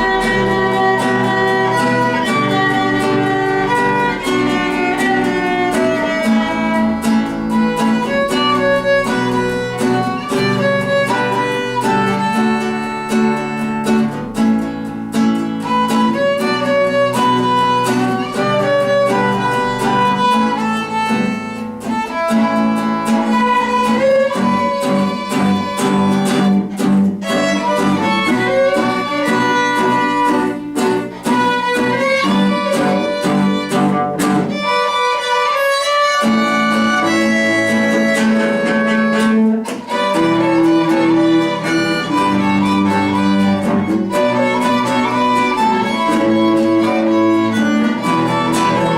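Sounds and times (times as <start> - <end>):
cello: 0.0 - 48.9
strummed acoustic guitar: 0.0 - 48.9
violins playing melody: 0.0 - 48.9.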